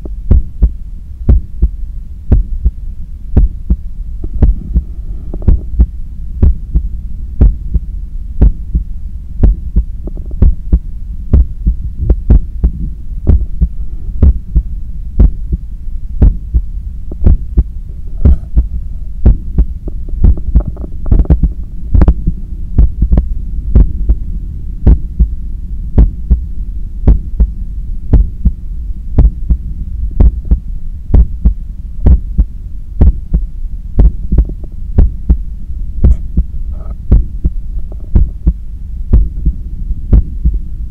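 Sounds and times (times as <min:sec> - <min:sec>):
heartbeat through stethoscope: 0:00.0 - 0:02.8, 0:03.4 - 0:15.6, 0:16.2 - 0:24.2, 0:24.8 - 0:25.4, 0:26.0 - 0:28.6, 0:29.2 - 0:40.6
steady low hum: 0:00.0 - 0:40.9.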